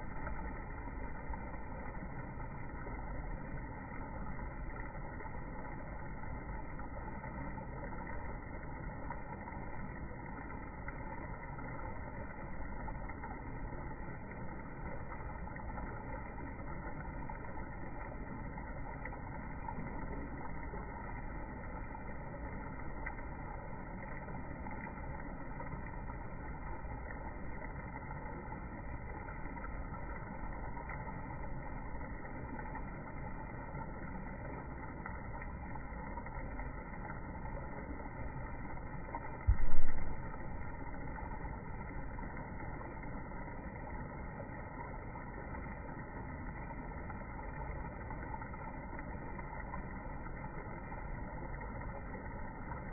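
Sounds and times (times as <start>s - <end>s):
low background rumble: 0.0s - 52.9s.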